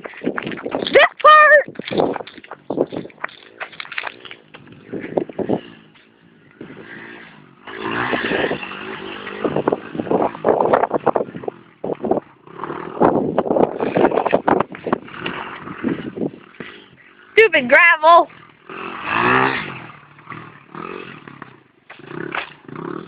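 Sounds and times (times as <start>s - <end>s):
rough crackly noise: 0.0s - 17.4s, 18.0s - 23.0s
dirt bike engine revving: 1.9s - 23.0s.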